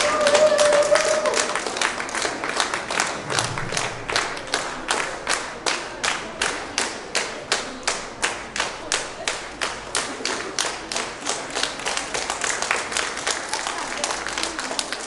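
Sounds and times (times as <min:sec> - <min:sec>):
audience clapping in unison: 0:00.0 - 0:15.0.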